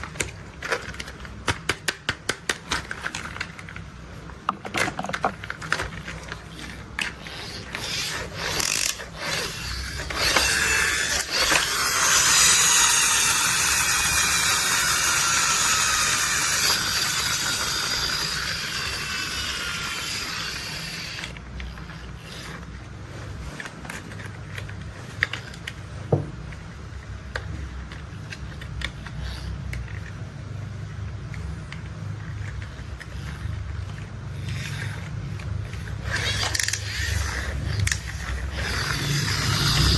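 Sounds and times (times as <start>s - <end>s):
plastic toy parts clicking: 0.0s - 30.3s, 30.9s - 39.9s
toy motor whirring: 0.0s - 39.9s.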